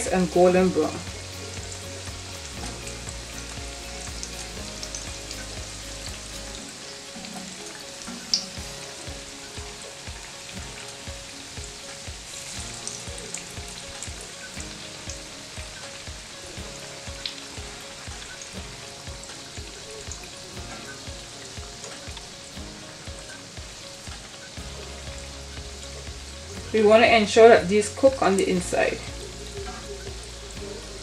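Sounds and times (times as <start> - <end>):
fritters sizzling in oil: 0.0 - 31.0.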